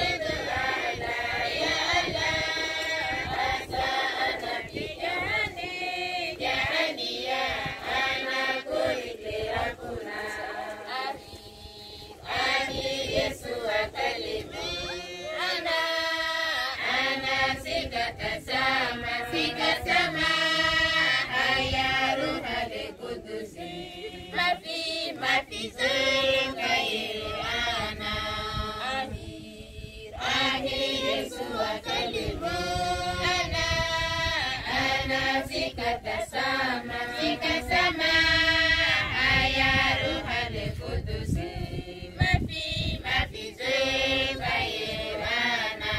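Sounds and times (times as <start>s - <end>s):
congregation singing a hymn: 0.0s - 45.9s.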